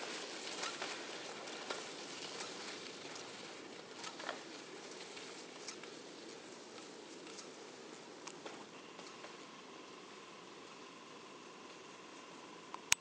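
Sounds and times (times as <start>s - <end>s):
skis hissing over snow: 0.0s - 12.6s
small snow crunches: 0.0s - 13.0s.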